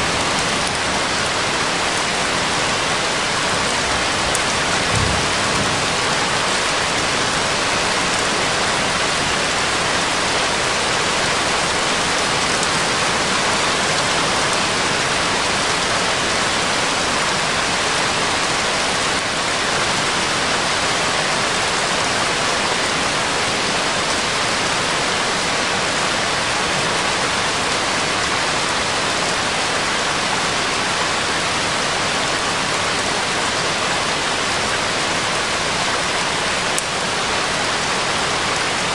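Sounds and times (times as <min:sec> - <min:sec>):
steady dense rain: 0:00.0 - 0:38.9.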